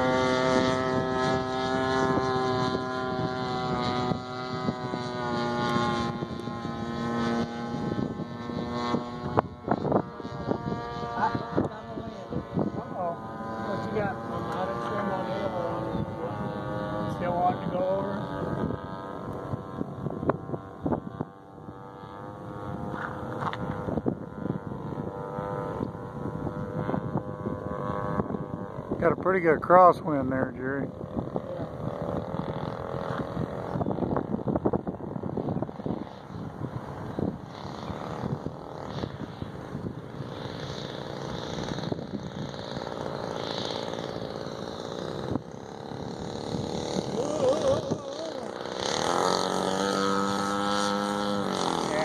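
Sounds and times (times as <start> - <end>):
model plane engine droning: 0.0 - 52.0
wind buffeting microphone: 0.0 - 52.0.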